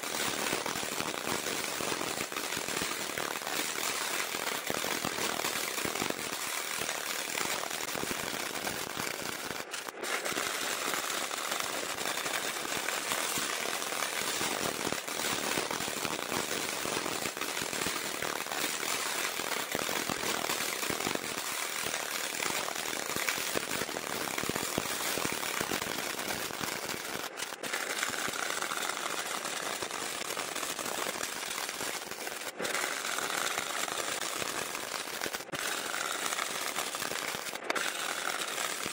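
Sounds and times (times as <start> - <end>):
welding arc crackling: 0.0 - 38.9.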